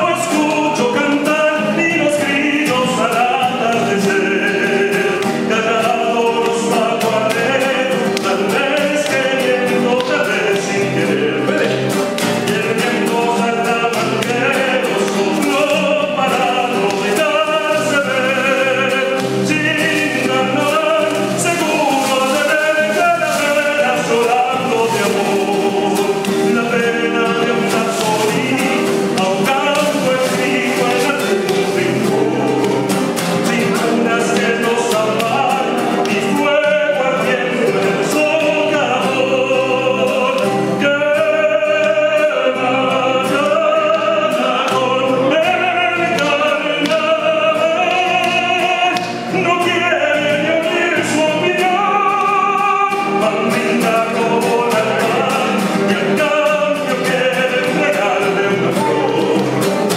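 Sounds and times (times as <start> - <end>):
acoustic guitar strumming: 0.0 - 59.9
man singing folk song: 0.0 - 59.9.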